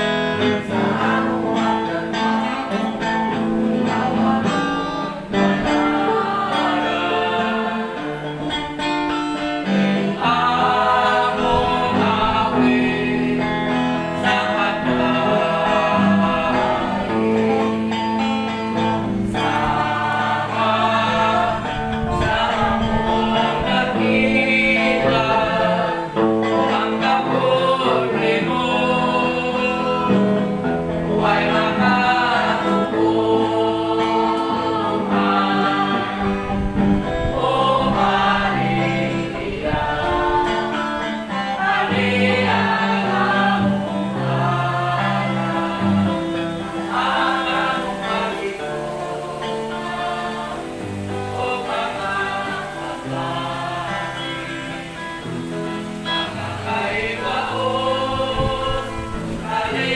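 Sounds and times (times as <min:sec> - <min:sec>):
guitar accompaniment: 0:00.0 - 0:59.9
voices singing: 0:00.0 - 0:59.9.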